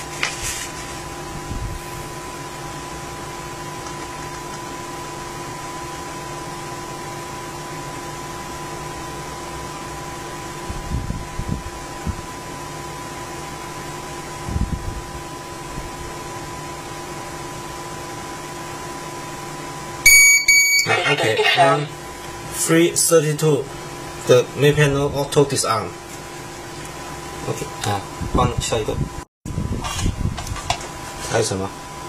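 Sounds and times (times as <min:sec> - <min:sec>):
background hum and hiss: 0:00.0 - 0:32.0.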